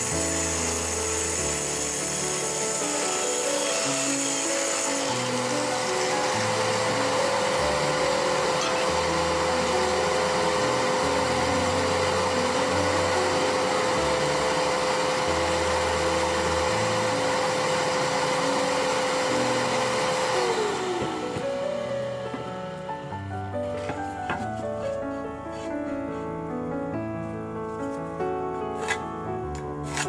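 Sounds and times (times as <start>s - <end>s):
shop vacuum motor whining: 0.0s - 24.4s.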